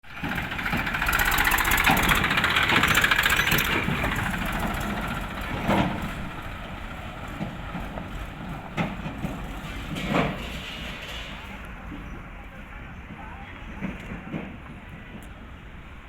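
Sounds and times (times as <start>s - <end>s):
tractor engine running: 0.0s - 15.2s.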